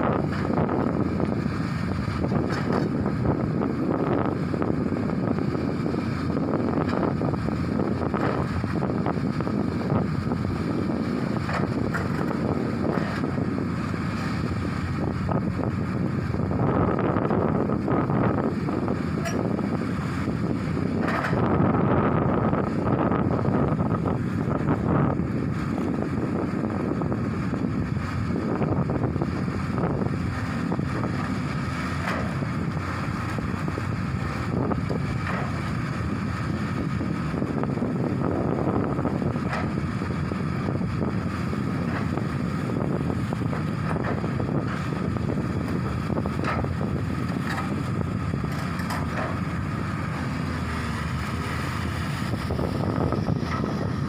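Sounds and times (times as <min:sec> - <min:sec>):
excavator diesel engine running: 0:00.0 - 0:54.0
wind buffeting microphone: 0:00.0 - 0:54.0.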